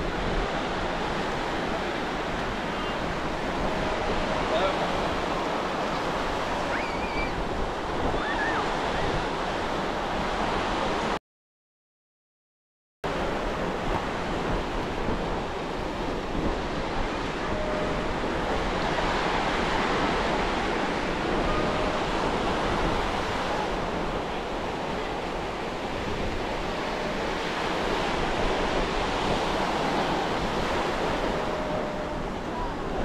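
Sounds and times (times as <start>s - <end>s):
ocean surf breaking: 0.0s - 11.2s, 13.1s - 33.0s
wind buffeting microphone: 0.0s - 11.2s, 13.1s - 33.0s.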